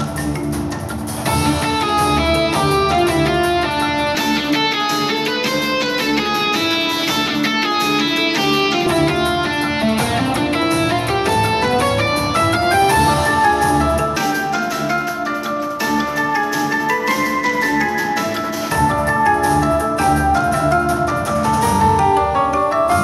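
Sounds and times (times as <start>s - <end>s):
guitar-led game music from speakers: 0.0s - 23.0s.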